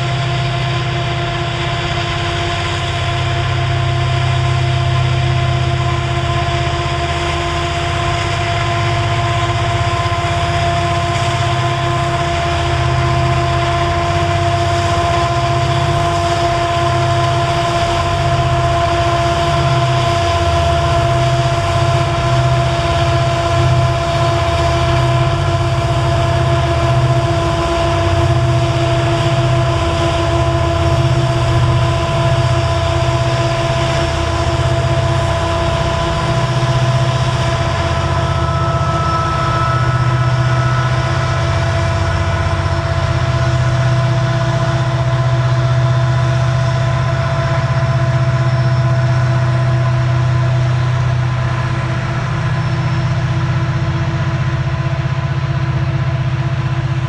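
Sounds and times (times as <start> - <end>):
high whine: 0.0 - 57.0
locomotive engine rumble: 0.0 - 57.0.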